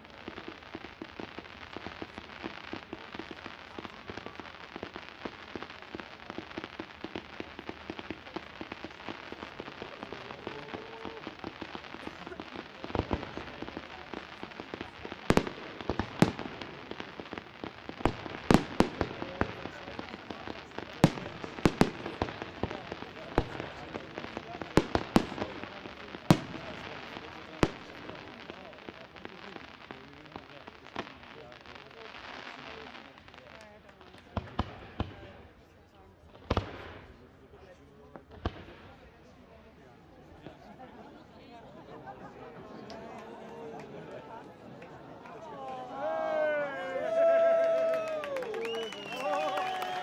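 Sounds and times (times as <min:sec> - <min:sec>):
fireworks crackling: 0:00.0 - 0:50.0.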